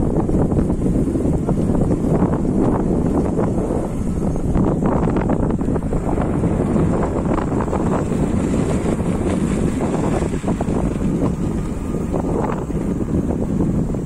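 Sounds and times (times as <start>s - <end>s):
motorbike and road noise: 0.0s - 14.0s
wind buffeting microphone: 0.0s - 14.0s.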